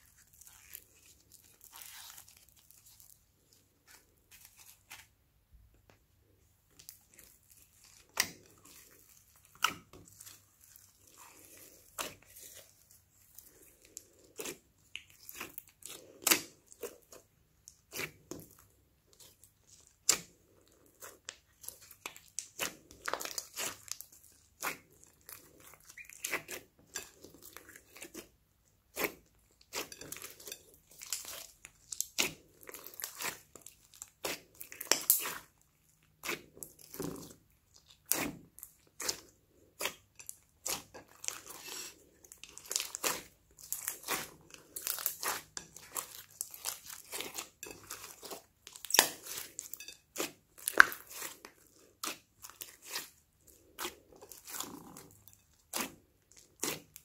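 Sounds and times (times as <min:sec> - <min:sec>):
hands squishing slime: 0:00.0 - 0:05.2, 0:06.6 - 0:57.0.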